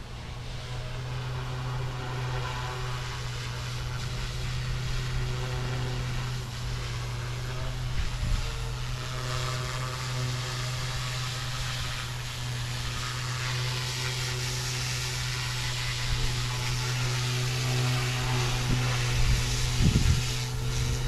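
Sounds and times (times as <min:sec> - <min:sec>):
rc helicopter motor humming: 0:00.0 - 0:21.0
wind hiss: 0:00.0 - 0:21.0.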